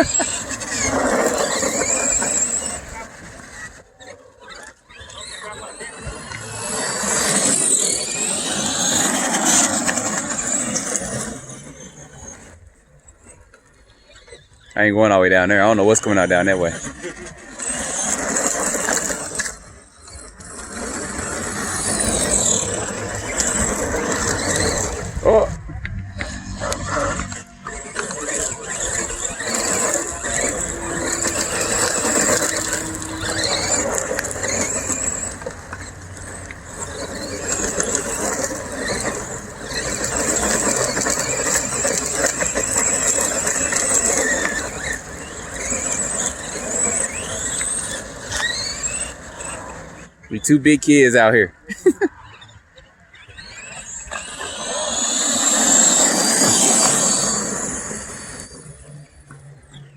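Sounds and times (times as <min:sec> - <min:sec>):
toy truck motor and gear whine: 0:00.0 - 0:59.9
tyre noise: 0:00.0 - 0:59.9.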